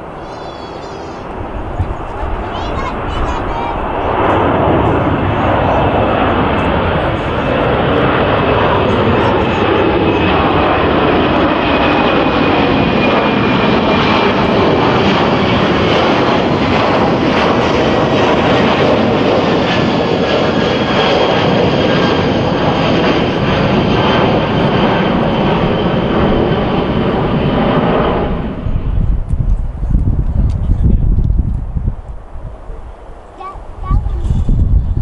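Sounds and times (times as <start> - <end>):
jet engine noise: 0.0 - 35.0.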